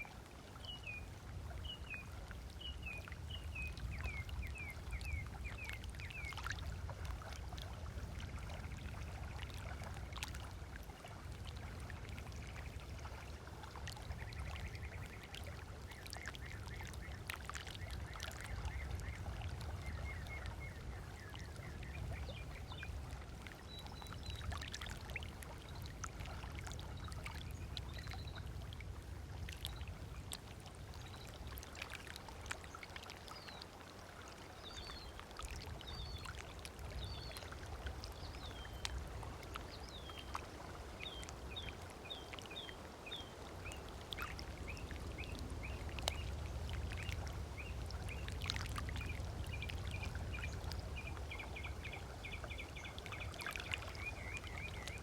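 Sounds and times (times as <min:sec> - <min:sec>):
waves lapping on shore: 0:00.0 - 0:55.0.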